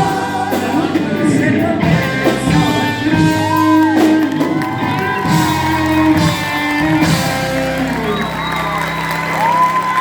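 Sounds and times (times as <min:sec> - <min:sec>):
guitar: 0:00.0 - 0:10.0
live band playing a ballad: 0:00.0 - 0:10.0.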